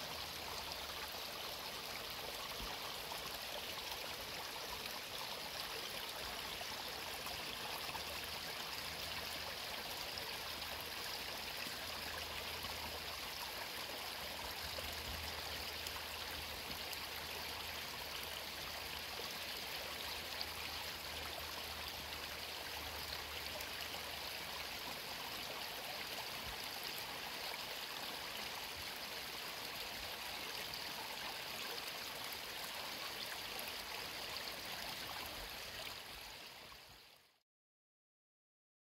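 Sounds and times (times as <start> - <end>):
creek water running: 0.0 - 37.2.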